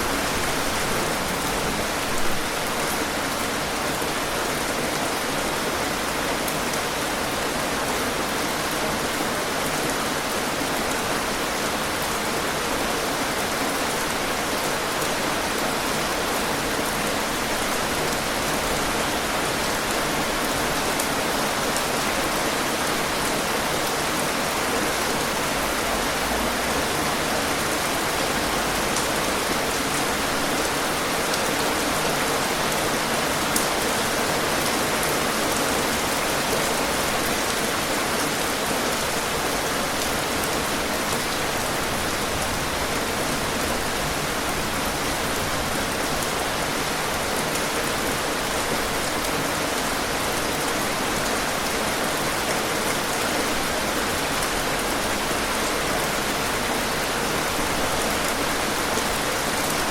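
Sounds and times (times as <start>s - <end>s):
dense rainfall hiss: 0.0s - 59.9s.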